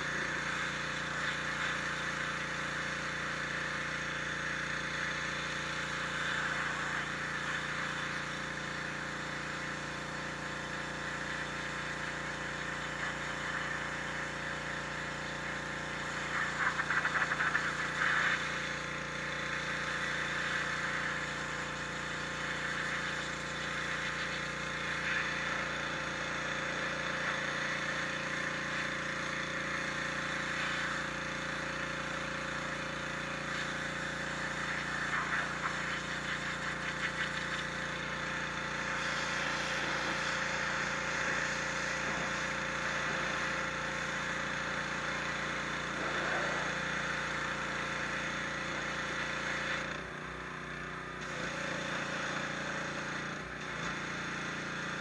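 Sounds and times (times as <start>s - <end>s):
pressure washer spraying stone: 0.0s - 55.0s.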